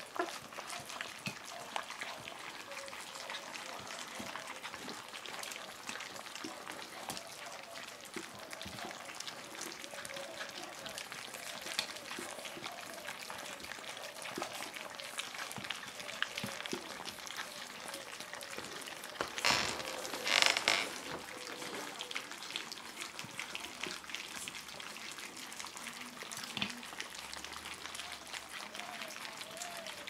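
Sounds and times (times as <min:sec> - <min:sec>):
puppies lapping food: 0:00.0 - 0:30.0.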